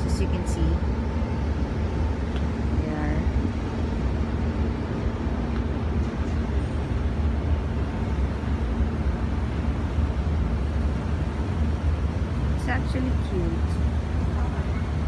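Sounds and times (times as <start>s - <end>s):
city background rumble: 0.0s - 15.0s.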